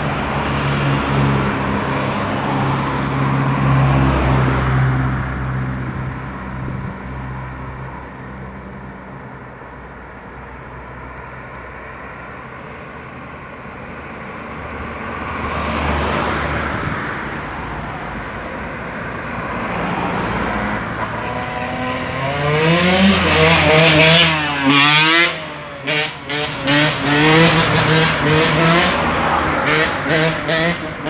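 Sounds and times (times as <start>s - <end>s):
cars passing on highway: 0.0s - 31.0s.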